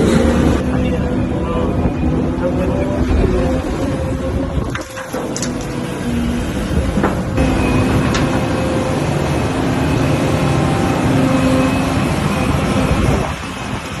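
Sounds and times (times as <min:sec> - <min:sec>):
excavator diesel engine running: 0:00.0 - 0:14.0
machinery whine: 0:00.0 - 0:14.0.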